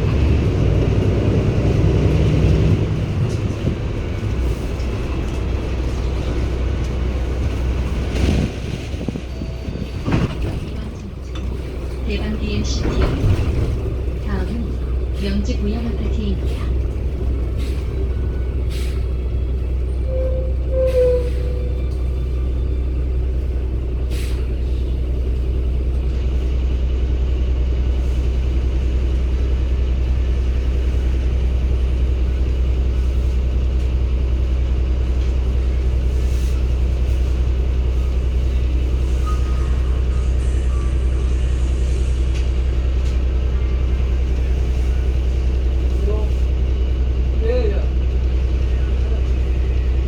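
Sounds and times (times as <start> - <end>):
bus diesel engine droning: 0.0 - 50.0.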